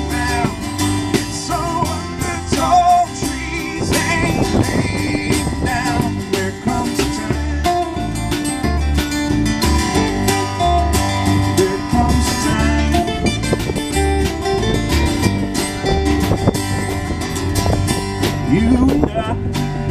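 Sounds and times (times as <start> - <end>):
acoustic guitar strumming: 0.0 - 19.9
drum kit: 0.0 - 19.9
resonator guitar: 0.0 - 19.9
upright bass: 0.0 - 19.9.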